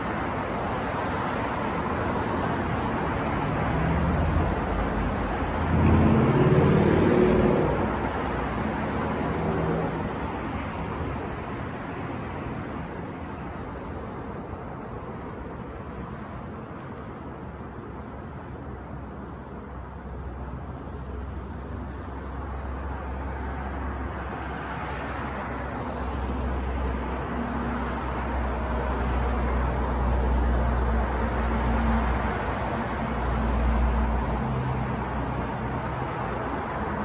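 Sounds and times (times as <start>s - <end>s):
street traffic rumble: 0.0s - 37.0s.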